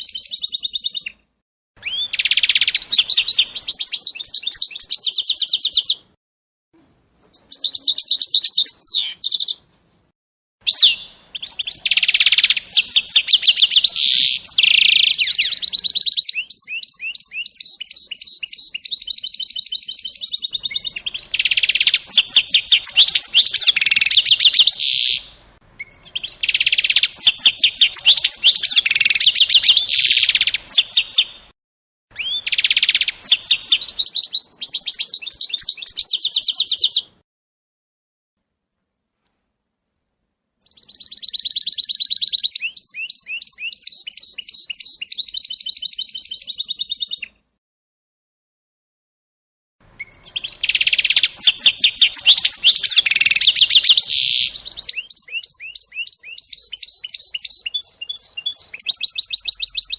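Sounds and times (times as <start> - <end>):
songbird trilling: 0.0 - 1.2, 1.8 - 6.0, 7.2 - 9.6, 10.7 - 31.4, 32.2 - 37.1, 40.6 - 47.4, 50.0 - 59.9.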